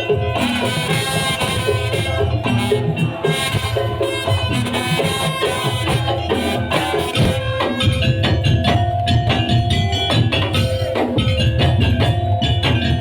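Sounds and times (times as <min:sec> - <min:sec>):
pitched percussion melody: 0:00.0 - 0:13.0
steady drum rhythm: 0:00.0 - 0:13.0.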